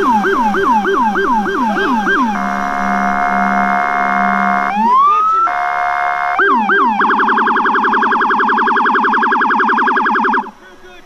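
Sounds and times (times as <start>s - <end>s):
electronic police siren: 0.0s - 10.7s.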